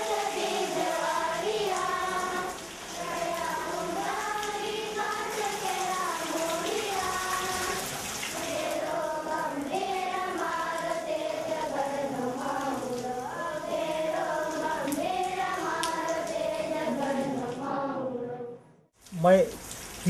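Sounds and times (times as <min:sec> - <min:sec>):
rain hissing: 0:00.0 - 0:18.2, 0:19.0 - 0:20.0
high voices singing: 0:00.0 - 0:18.8.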